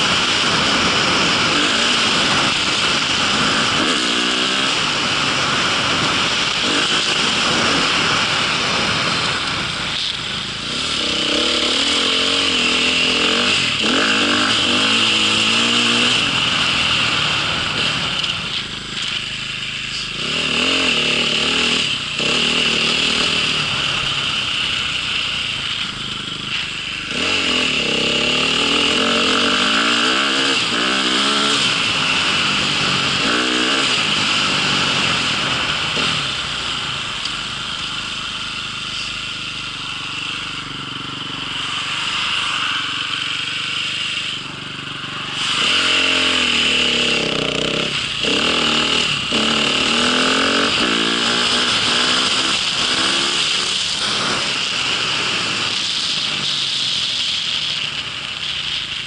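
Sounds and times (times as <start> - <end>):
constant rushing hiss: 0.0 - 59.0
small vehicle engine revving: 0.0 - 59.0.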